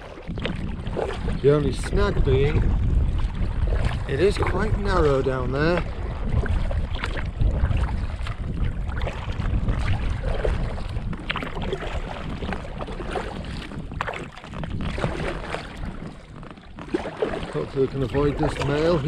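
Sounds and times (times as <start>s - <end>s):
paddle splashing in water: 0.0s - 19.0s
wind rumbling on microphone: 0.0s - 19.0s.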